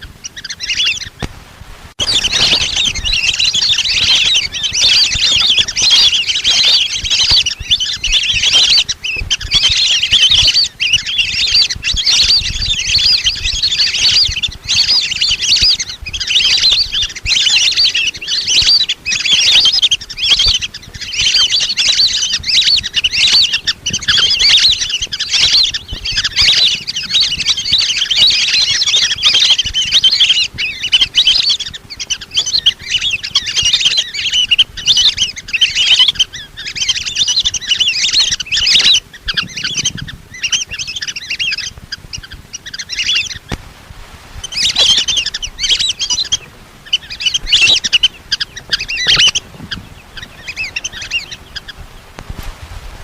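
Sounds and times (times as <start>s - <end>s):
ducks whistling calls: 0.0s - 1.3s, 2.0s - 43.6s, 44.3s - 53.0s.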